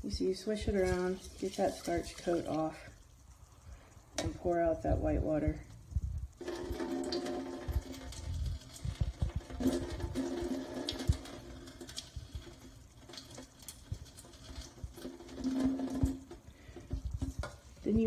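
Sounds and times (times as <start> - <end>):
water pouring into metal sink: 0.2 - 3.0, 6.3 - 18.0.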